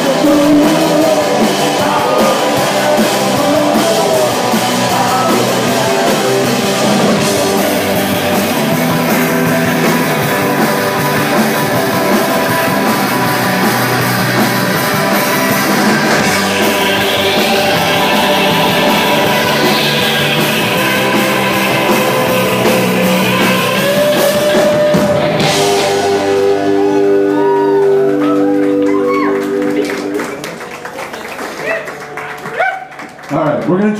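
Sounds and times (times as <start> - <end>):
rock band playing live: 0.0 - 33.3.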